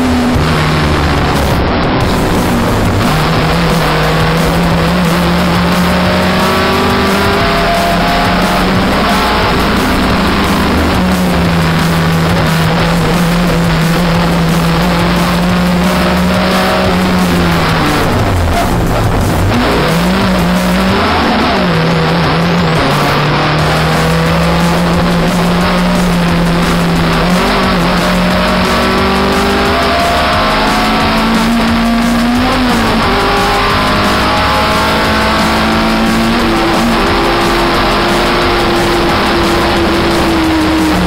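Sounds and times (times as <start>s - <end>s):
background music: 0.0s - 41.0s
race car engine: 0.0s - 41.0s.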